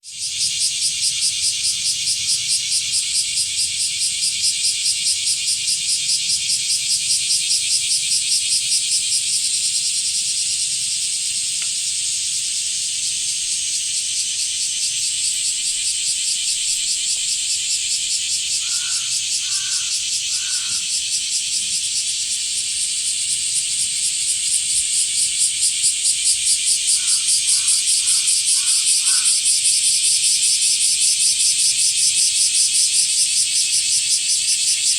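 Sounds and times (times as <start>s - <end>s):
cicadas calling: 0.0s - 34.9s.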